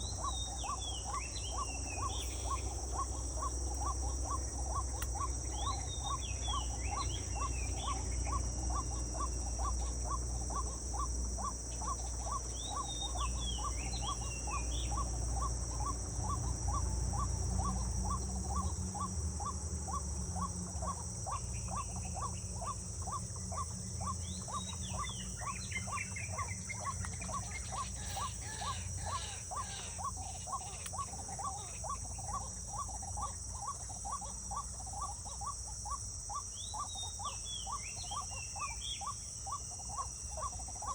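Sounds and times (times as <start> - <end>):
birds whistling falling calls: 0.0 - 16.8, 21.3 - 35.5, 36.3 - 40.9
high-pitched insect drone: 0.0 - 40.9
regular ticking call: 0.0 - 40.9.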